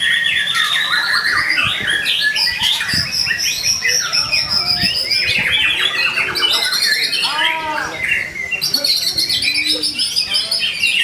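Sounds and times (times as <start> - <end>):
bird singing varied song: 0.0 - 11.0.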